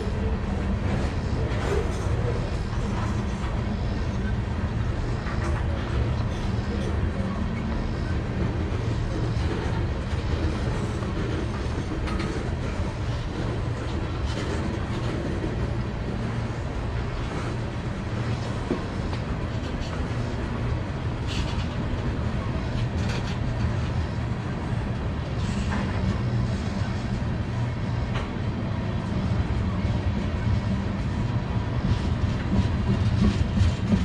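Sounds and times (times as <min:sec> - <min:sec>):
freight train rumbling past: 0:00.0 - 0:34.0
wheels clacking on rails: 0:00.0 - 0:34.0.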